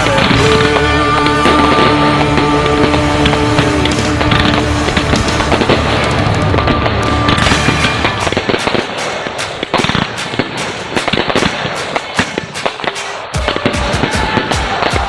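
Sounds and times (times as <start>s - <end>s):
fireworks popping and crackling: 0.0s - 15.0s
music soundtrack: 0.0s - 15.0s.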